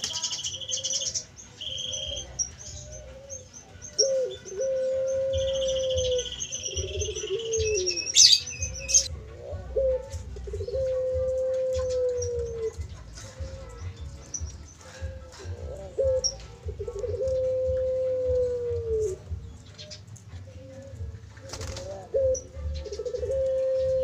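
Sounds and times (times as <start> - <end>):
birds chirping trills: 0.0 - 24.0
dove cooing: 0.0 - 24.0.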